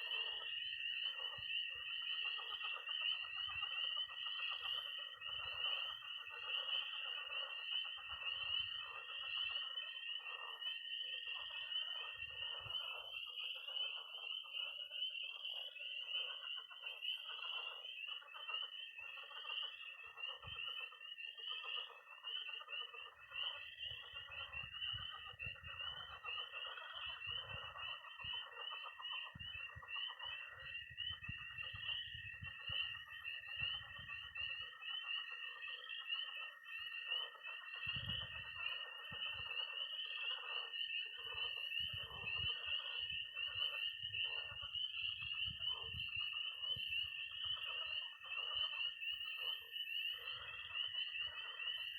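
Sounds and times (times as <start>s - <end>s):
high peeping of frogs: 0.0s - 51.9s
low pulsing frog croaks: 0.0s - 51.9s
steady high trill of toads: 0.0s - 51.9s.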